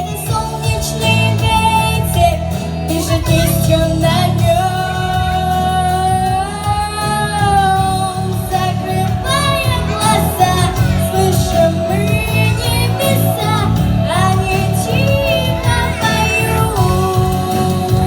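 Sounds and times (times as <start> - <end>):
instrumental backing track: 0.0 - 18.0
woman singing pop song: 0.0 - 18.0.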